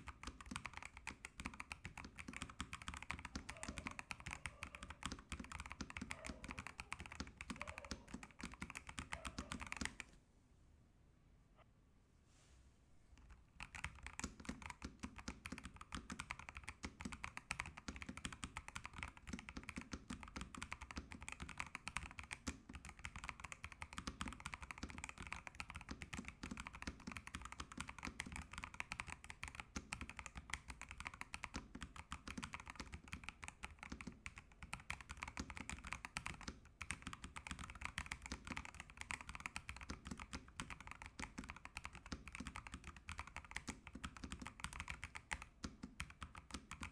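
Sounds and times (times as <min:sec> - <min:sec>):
fast mechanical keyboard typing: 0:00.0 - 0:10.1, 0:13.2 - 0:46.9.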